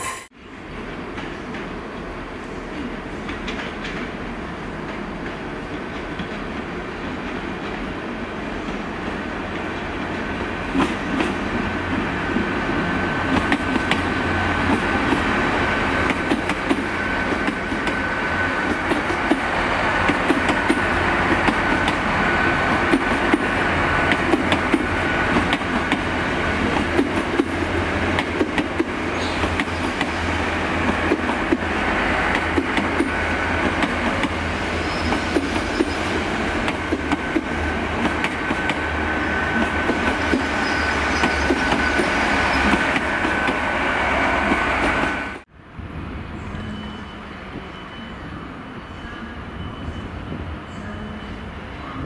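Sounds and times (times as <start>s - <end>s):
distant railway rumble: 0.3s - 52.0s.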